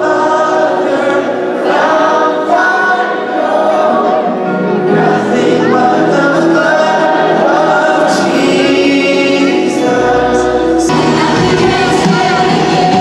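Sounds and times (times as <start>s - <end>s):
gospel choir singing: 0.0s - 13.0s.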